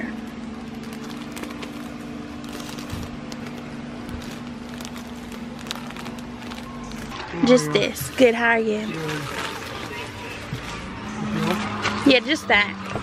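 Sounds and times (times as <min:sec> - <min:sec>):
plastic packs crinkling: 0:00.0 - 0:12.0
steady low hum: 0:00.0 - 0:13.0.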